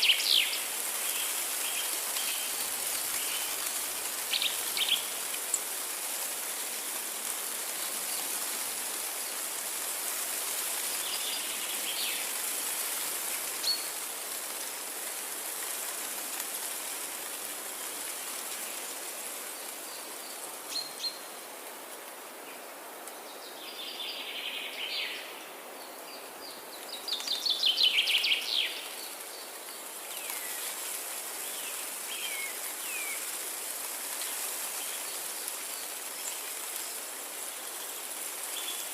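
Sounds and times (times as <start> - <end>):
rain or running water hiss: 0.0 - 38.9.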